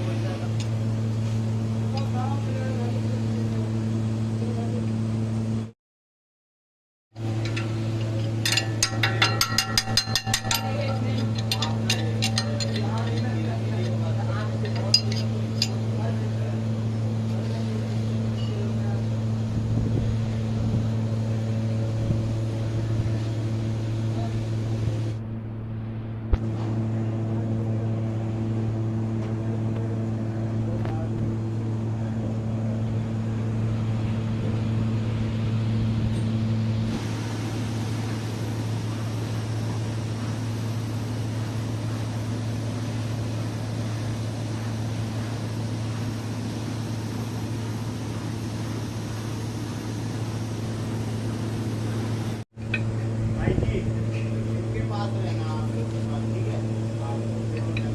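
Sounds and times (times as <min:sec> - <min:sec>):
machinery humming: 0:00.0 - 0:05.7, 0:07.2 - 0:57.9.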